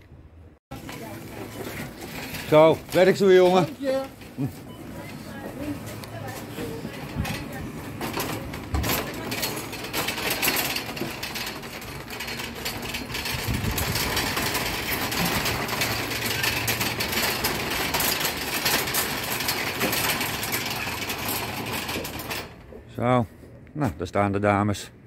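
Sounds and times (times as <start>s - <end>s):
shopping cart rattling over bricks: 0.7s - 22.8s.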